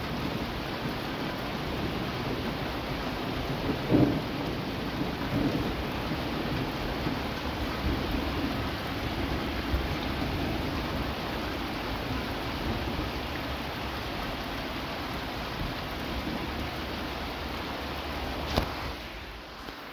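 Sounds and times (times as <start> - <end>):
low rumble of thunder: 0.0 - 17.4
steady rain falling: 0.0 - 19.9.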